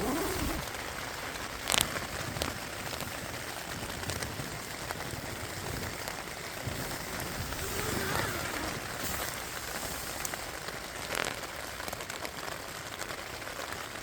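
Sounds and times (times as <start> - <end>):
raindrops tapping close by: 0.0 - 14.0
steady rain in forest: 0.0 - 14.0.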